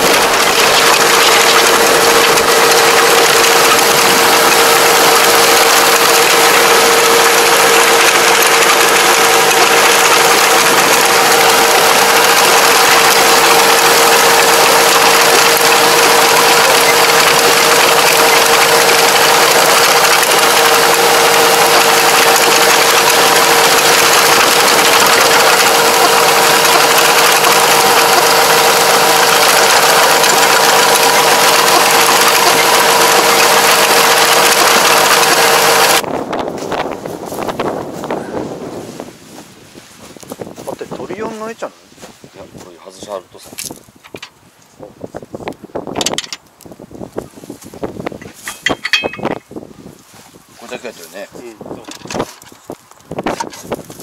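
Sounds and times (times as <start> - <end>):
tractor engine droning: 0.0 - 41.6, 47.2 - 50.0.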